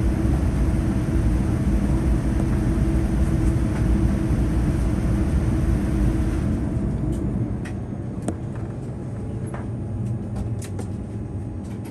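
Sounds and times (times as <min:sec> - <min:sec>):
airplane cabin rumble and hum: 0:00.0 - 0:11.9.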